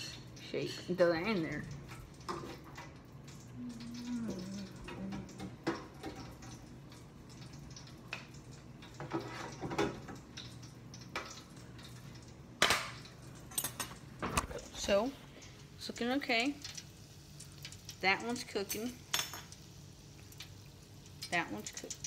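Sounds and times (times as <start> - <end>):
faint steady hum: 0.0 - 22.0
hot oil bubbling and crackling: 0.0 - 22.0.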